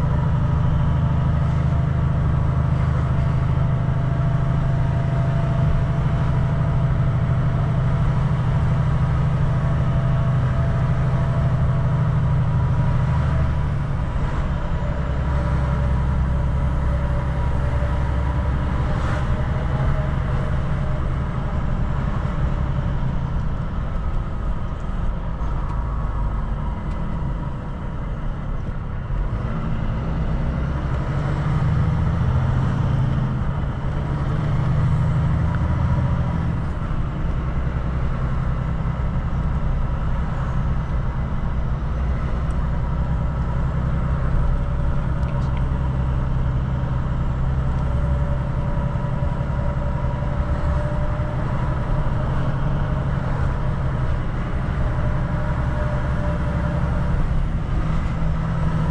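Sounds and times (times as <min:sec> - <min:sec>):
road noise: 0:00.0 - 0:58.9
truck diesel engine drone: 0:00.0 - 0:58.9.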